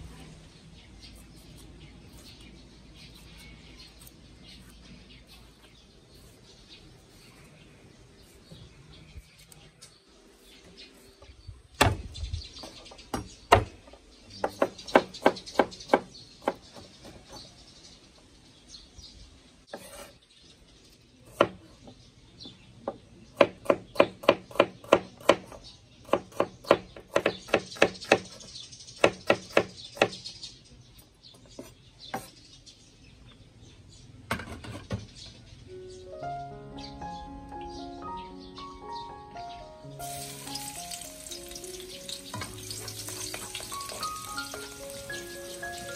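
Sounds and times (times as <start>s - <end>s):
birds chirping faintly: 0.0s - 45.9s.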